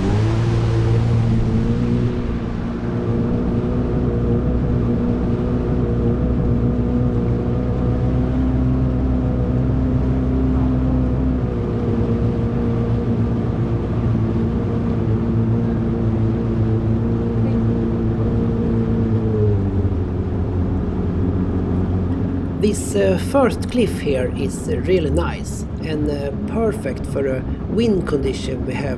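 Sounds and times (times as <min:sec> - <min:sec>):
motorboat engine rumbling: 0:00.0 - 0:28.9.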